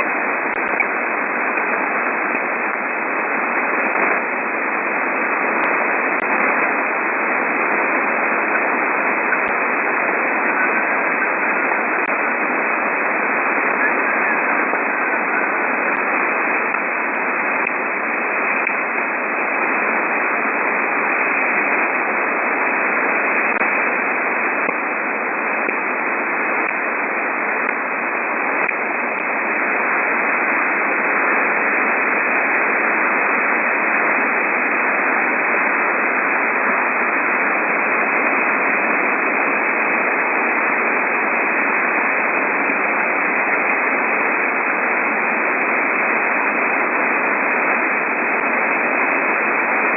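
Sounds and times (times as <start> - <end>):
radio static hiss: 0.0 - 49.9.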